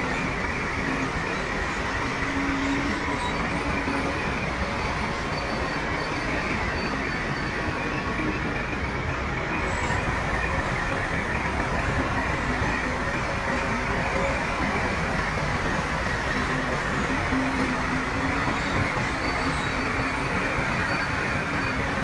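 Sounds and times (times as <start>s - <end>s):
steel tracks rattling: 0.0s - 22.0s.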